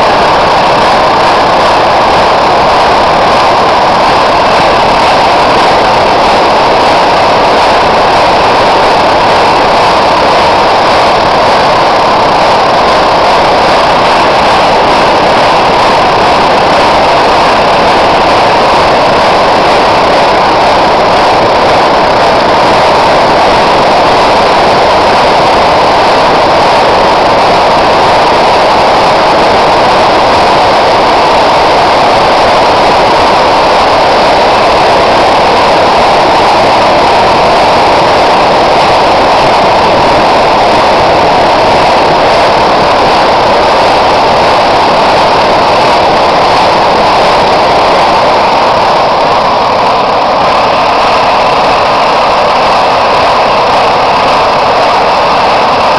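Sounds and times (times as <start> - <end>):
blow lamp burning with rushing noise: 0.0 - 55.9.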